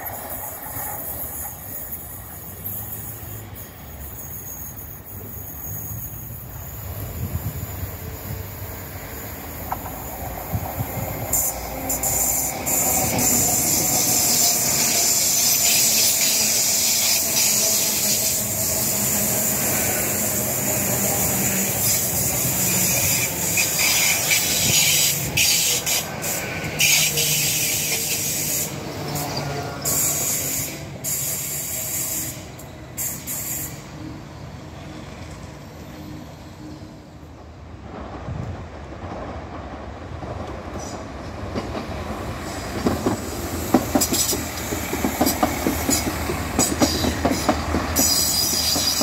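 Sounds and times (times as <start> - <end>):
train passing at speed: 0.0 - 49.0
train wheels hissing on rails: 0.0 - 49.0.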